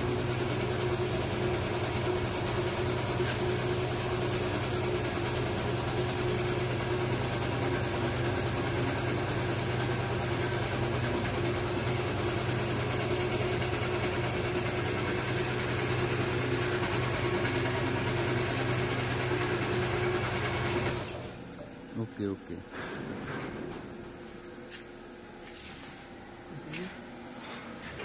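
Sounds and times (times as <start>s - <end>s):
machine electric hum: 0.0s - 28.0s.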